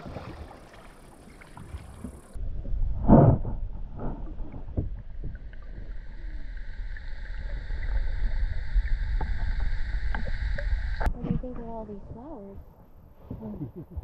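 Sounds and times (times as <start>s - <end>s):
underwater rumble of moving water: 0.0s - 14.0s.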